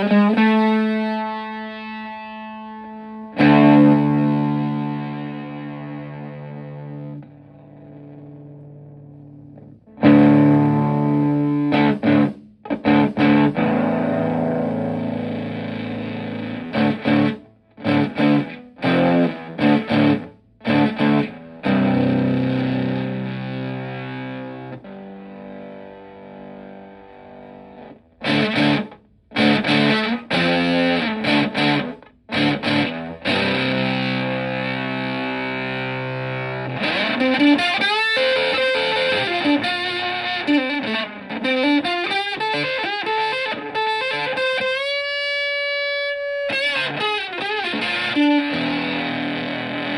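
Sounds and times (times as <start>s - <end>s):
fuzzed electric guitar chords: 0.0s - 49.9s.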